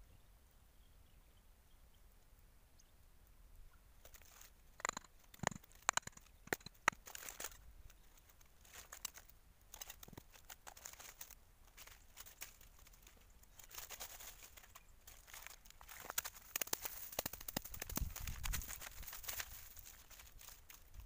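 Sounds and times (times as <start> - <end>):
dry leaves and twigs crackling: 4.0 - 21.0.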